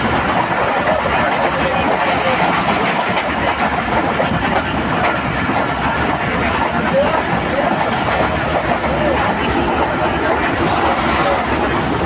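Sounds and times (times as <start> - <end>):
train rumbling past: 0.0 - 12.0
wheels clacking on rails: 0.0 - 12.0.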